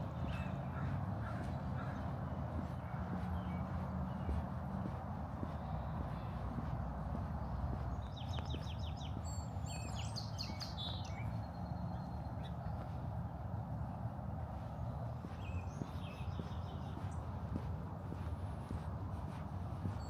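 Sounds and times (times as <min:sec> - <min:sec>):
songbird singing: 0:00.2 - 0:13.0, 0:13.8 - 0:18.3.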